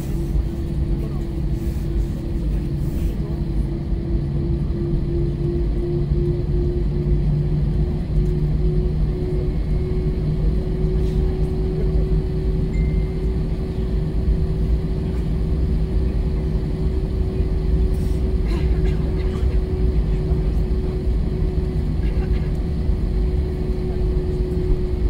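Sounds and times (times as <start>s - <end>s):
jet engines idling in cabin: 0.0s - 25.0s.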